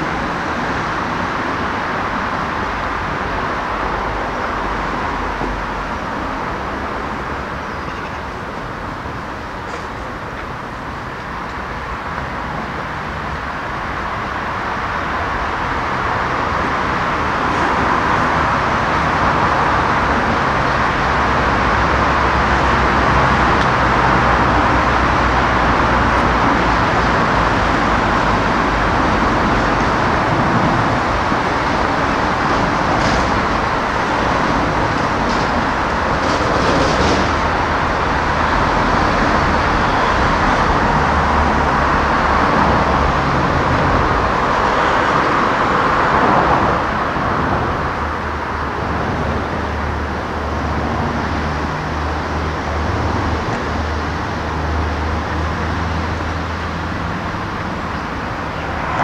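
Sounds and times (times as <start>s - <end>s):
car traffic passing: 0.0s - 59.0s.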